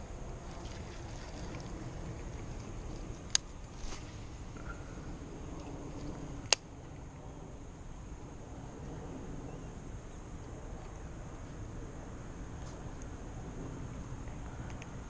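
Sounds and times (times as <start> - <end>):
low outdoor background noise: 0.0 - 15.0.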